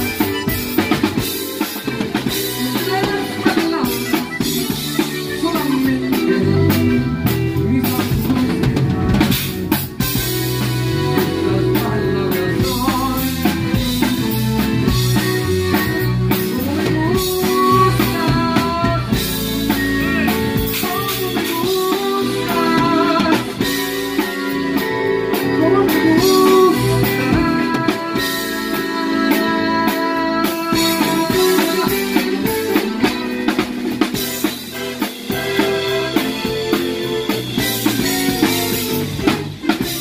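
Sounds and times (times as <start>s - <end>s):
drum kit beat: 0.0s - 40.0s
electric guitars: 0.0s - 40.0s
live band playing: 0.0s - 40.0s.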